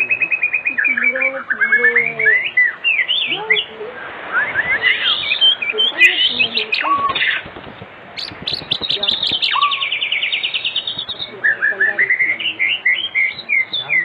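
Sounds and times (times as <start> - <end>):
songbird whistling and trilling: 0.0 - 3.7, 4.3 - 14.0.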